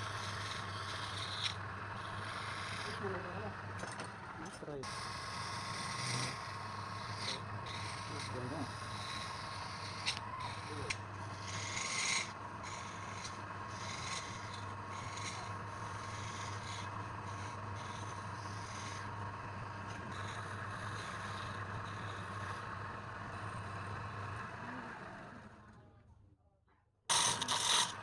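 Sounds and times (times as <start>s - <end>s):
spinning wood being scraped: 0.0s - 25.2s, 27.1s - 28.0s
wood lathe motor hum: 0.0s - 25.8s, 27.1s - 28.0s.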